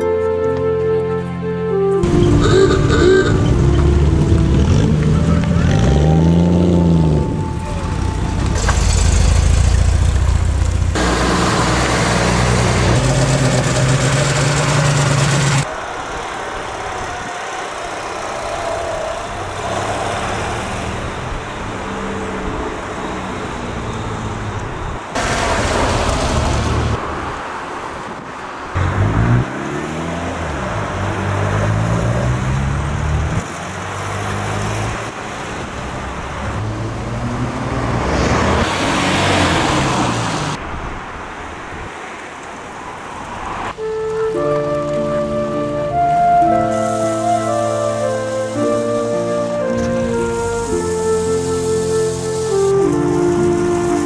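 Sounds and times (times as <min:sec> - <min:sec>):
cars driving past: 0:02.0 - 0:54.0.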